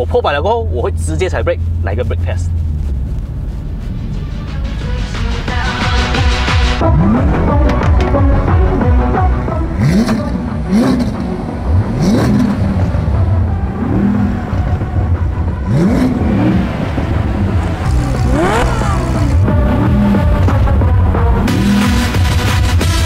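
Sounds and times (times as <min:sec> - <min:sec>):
sports car engines revving: 0:00.0 - 0:23.0
background music: 0:03.9 - 0:23.0.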